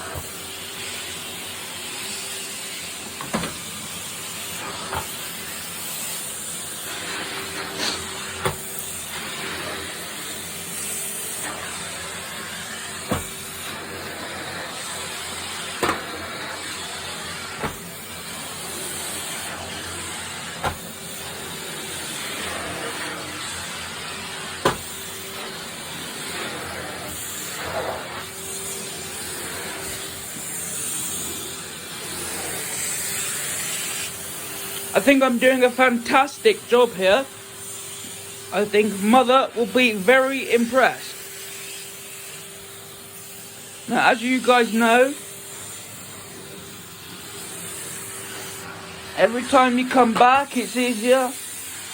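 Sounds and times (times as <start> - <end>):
vacuum cleaner running over carpet: 0.0 - 51.9.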